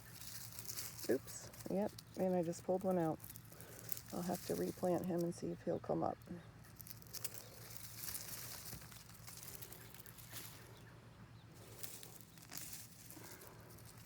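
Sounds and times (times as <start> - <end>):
rustling of dry stalks and soil: 0.0 - 14.0.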